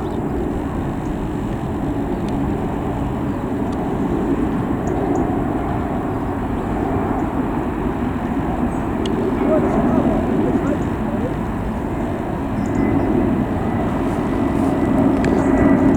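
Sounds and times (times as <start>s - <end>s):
jet engines rumbling: 0.0s - 15.9s.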